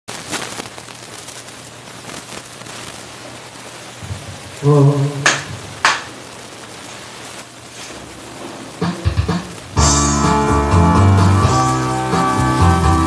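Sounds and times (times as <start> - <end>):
background hiss: 0.1 - 13.0.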